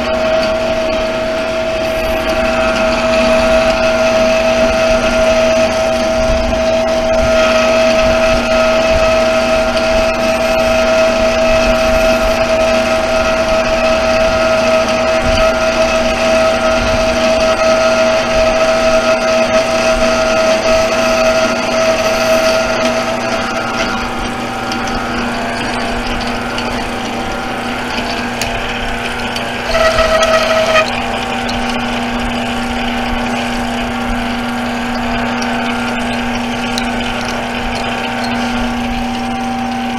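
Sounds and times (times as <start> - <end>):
high-pitched whine: 0.0 - 39.9
metal lathe running with gear whine: 0.0 - 39.9.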